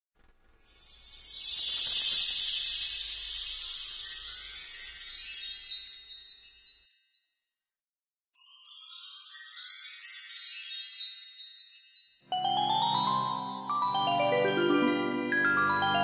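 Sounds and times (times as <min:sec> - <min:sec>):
sparkling chime notes: 0:00.7 - 0:07.2, 0:08.4 - 0:16.0.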